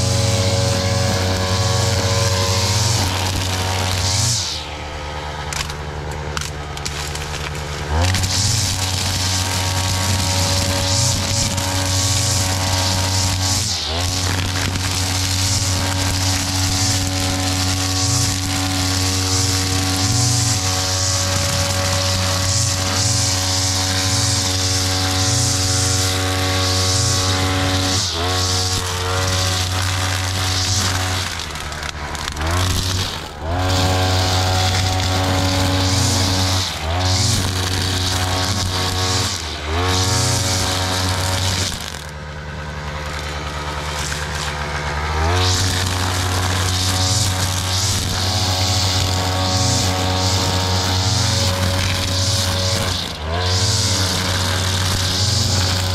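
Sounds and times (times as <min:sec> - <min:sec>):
cutting head hissing through grass: 0:00.0 - 0:42.2, 0:42.8 - 0:55.9
brush cutter engine revving: 0:00.0 - 0:55.9.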